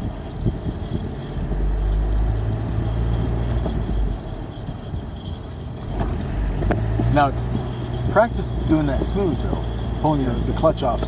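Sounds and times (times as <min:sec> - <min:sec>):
pickup engine hum: 0:00.0 - 0:11.0
road rumble: 0:00.0 - 0:11.0.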